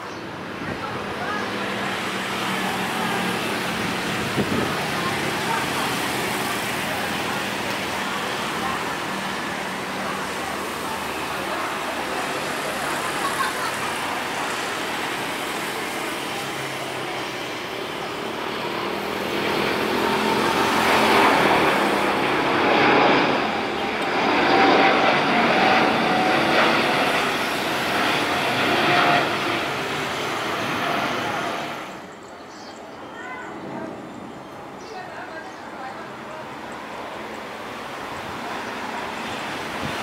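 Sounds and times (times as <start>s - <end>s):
jet engines passing: 0.0s - 40.0s.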